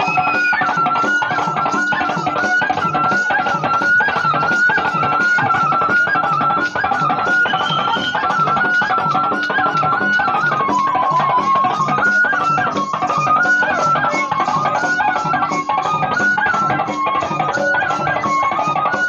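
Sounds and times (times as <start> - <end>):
drum beats: 0.0 - 19.0.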